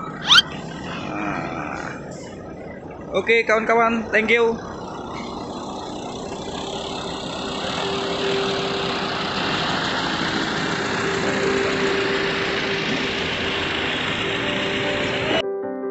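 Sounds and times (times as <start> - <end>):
diesel truck engine idling: 0.0 - 15.4.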